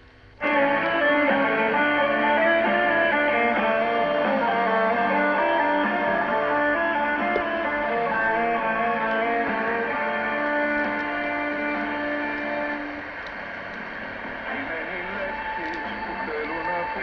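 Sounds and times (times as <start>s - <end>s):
plucked guitar music on radio: 0.4s - 17.0s.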